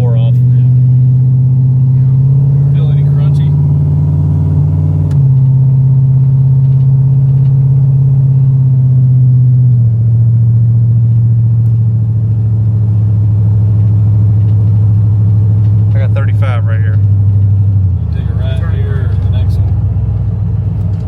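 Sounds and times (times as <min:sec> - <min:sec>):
vehicle engine loud drone: 0:00.0 - 0:21.0.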